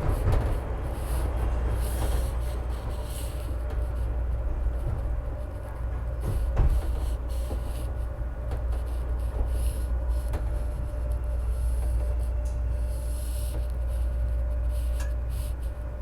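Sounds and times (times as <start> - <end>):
train rumbling from inside: 0.0 - 16.0.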